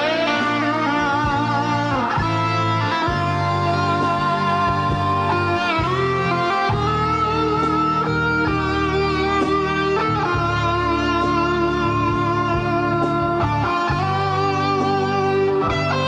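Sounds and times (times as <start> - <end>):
guitar-led pop music: 0.0 - 16.0.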